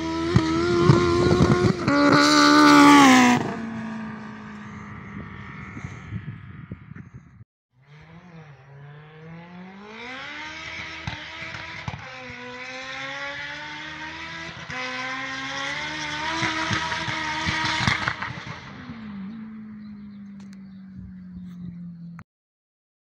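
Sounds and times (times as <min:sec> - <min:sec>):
car engine accelerating: 0:00.0 - 0:07.0, 0:07.8 - 0:22.2.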